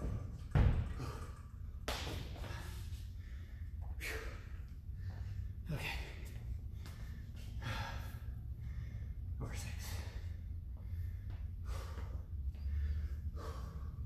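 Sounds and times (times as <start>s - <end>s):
low steady rumble: 0.0s - 14.0s
man breathing hard: 0.1s - 14.0s.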